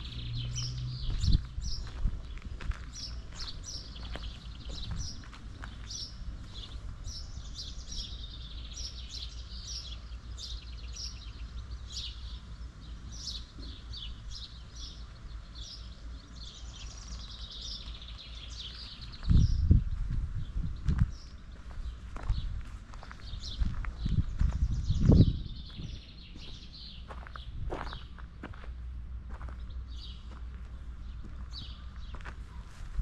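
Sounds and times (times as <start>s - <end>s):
small birds chirping: 0.0s - 28.7s, 29.3s - 33.0s.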